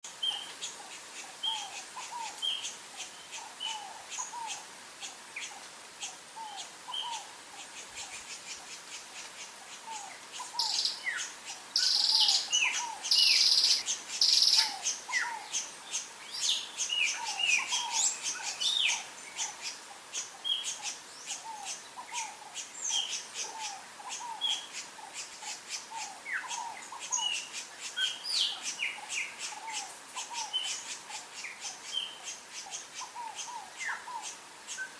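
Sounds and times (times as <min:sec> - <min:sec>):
wild birds chirping: 0:00.1 - 0:34.9.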